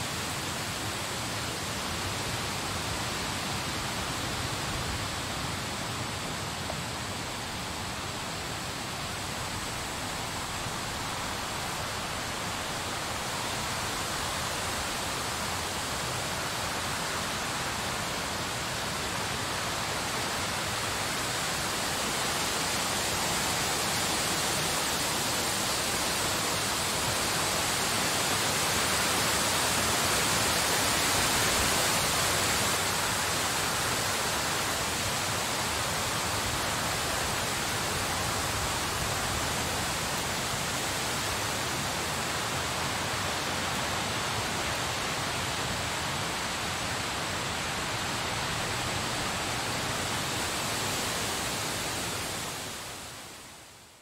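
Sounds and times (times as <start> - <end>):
blizzard wind rushing hiss: 0.0 - 54.0.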